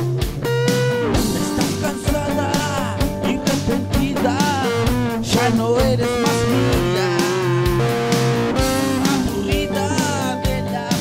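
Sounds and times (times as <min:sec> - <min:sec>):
electric guitar: 0:00.0 - 0:11.0
rock and roll backing track: 0:00.0 - 0:11.0
man singing: 0:01.2 - 0:11.0.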